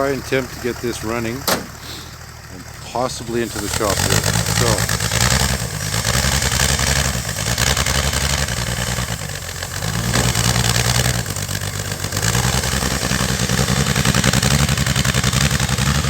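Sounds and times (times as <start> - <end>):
snowmobile engine running unevenly: 0.0 - 16.0.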